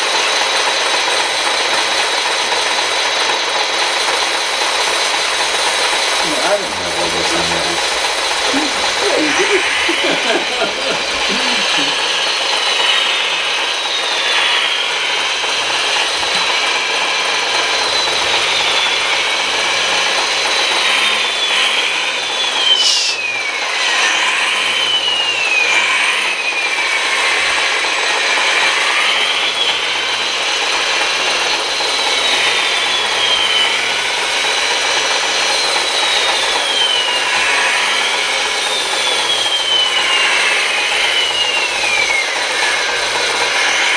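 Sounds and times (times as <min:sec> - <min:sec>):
small electric motors whining: 0:00.0 - 0:43.9.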